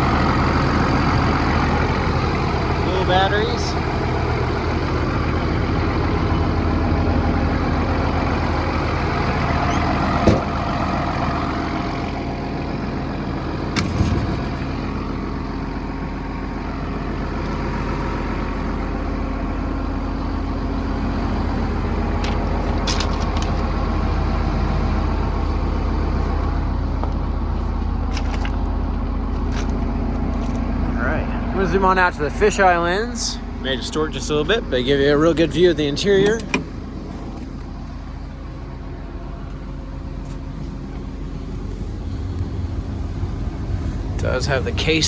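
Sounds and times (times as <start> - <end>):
diesel engine idling: 0.0 - 45.0.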